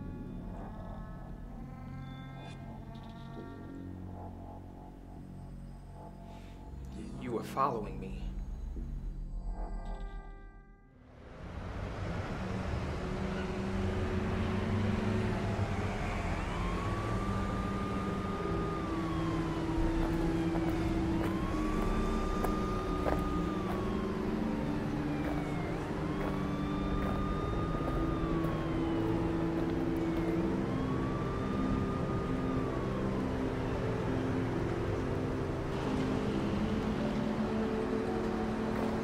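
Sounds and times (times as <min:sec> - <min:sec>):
emergency siren wailing: 0:00.0 - 0:08.3, 0:11.4 - 0:39.0
low steady drone: 0:00.0 - 0:39.0.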